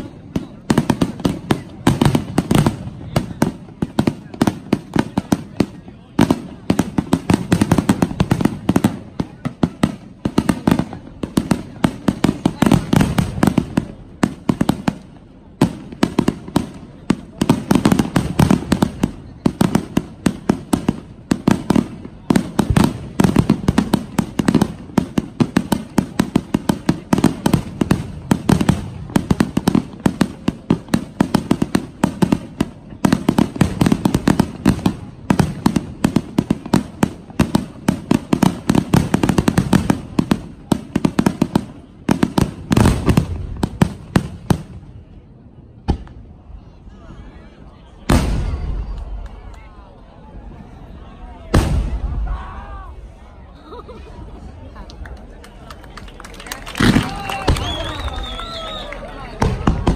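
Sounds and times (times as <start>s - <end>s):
fireworks bangs: 0.0s - 46.7s, 47.9s - 49.9s, 51.3s - 53.3s, 56.4s - 59.9s.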